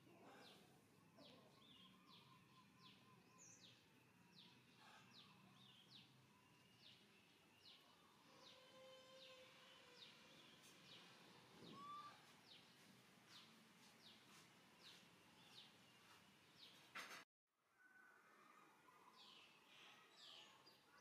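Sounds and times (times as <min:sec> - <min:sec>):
quiet background noise: 0:00.0 - 0:21.0.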